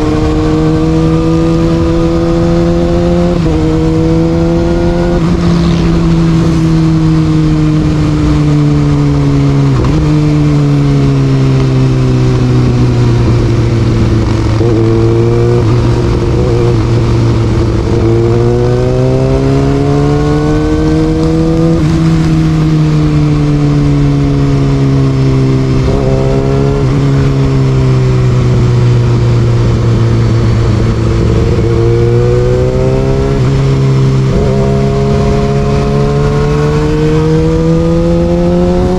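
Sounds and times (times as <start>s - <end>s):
motorcycle engine revving: 0.0s - 38.9s
road and wind noise: 0.0s - 38.9s.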